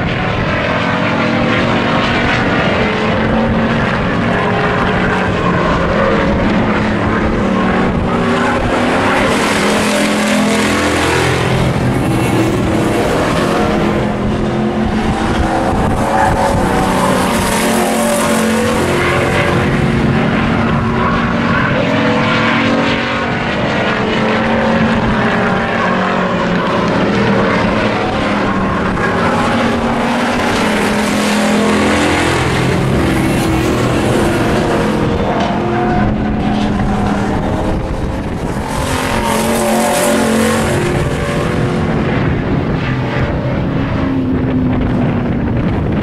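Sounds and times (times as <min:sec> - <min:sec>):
race truck engines: 0:00.0 - 0:46.0.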